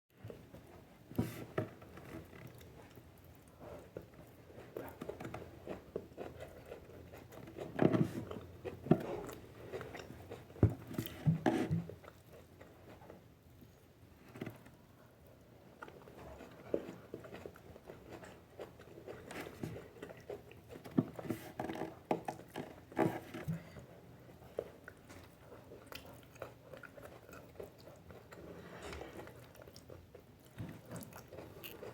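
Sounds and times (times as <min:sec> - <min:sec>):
person chewing with crunches: 0:01.3 - 0:13.3, 0:15.8 - 0:31.9.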